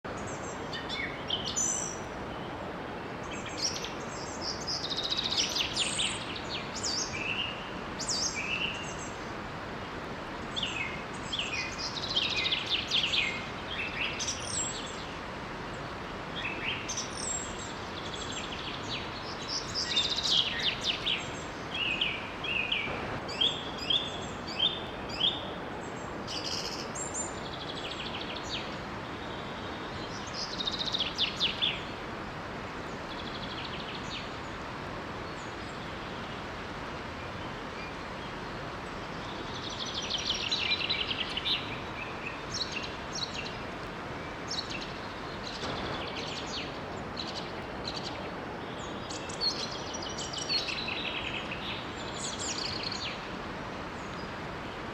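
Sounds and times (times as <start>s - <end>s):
small waterfall rushing: 0.0s - 54.9s.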